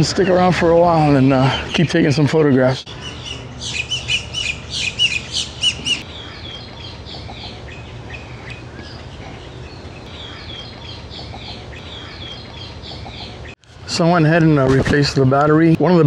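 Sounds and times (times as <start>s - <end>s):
birds chirping and calling: 0.0s - 14.2s
steady low hum: 0.0s - 16.0s.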